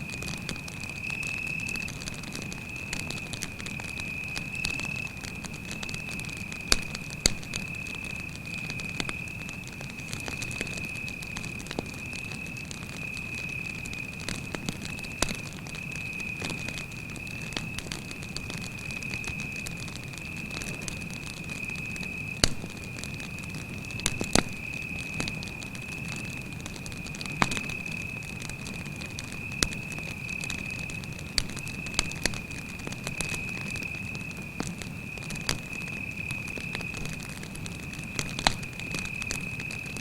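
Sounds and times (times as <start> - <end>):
campfire crackling: 0.0 - 40.0
cricket trilling: 0.1 - 40.0.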